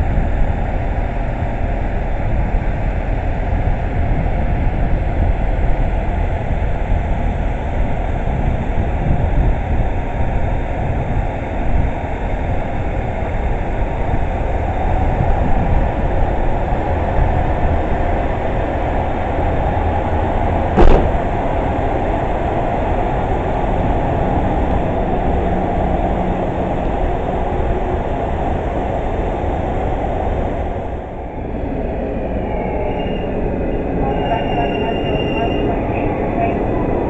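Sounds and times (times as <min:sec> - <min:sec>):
electric train rumbling: 0:00.0 - 0:37.0.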